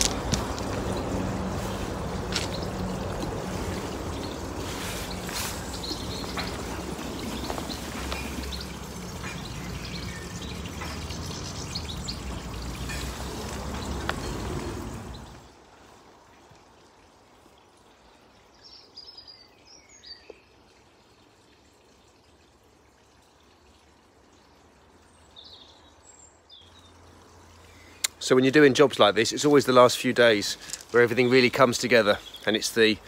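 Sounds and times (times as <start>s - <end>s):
water trickling into pond: 0.0s - 33.0s.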